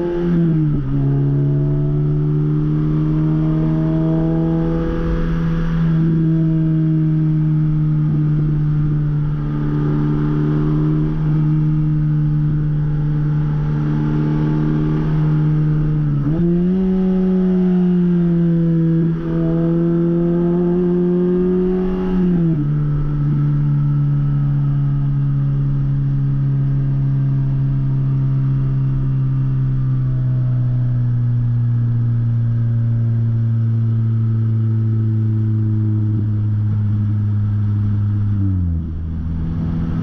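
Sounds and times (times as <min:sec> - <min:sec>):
car engine accelerating: 0:00.0 - 0:40.0.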